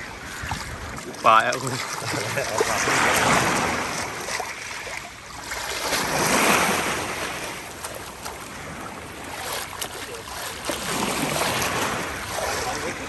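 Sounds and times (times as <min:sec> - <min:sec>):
sea waves washing: 0:00.0 - 0:13.0.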